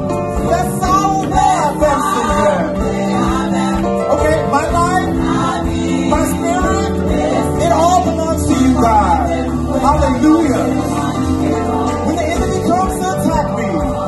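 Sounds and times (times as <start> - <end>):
gospel choir singing: 0.0 - 14.0
instrumental accompaniment: 0.0 - 14.0.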